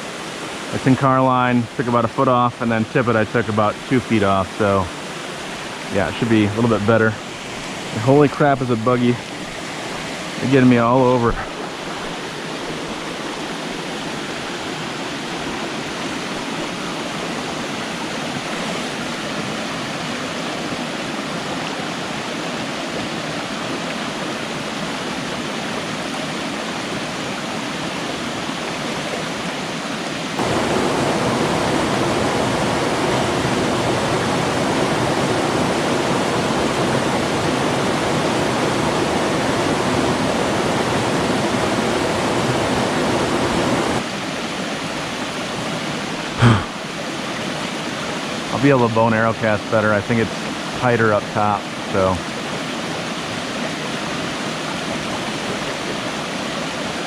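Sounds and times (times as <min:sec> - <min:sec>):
stream rushing over cascades: 0:00.0 - 0:57.0.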